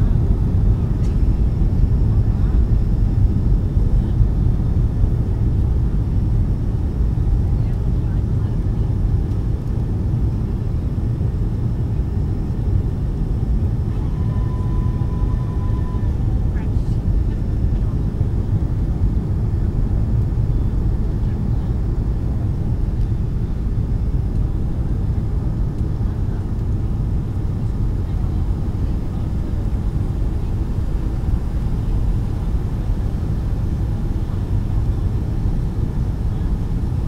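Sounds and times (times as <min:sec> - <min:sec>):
airliner cabin engine roar: 0:00.0 - 0:37.0.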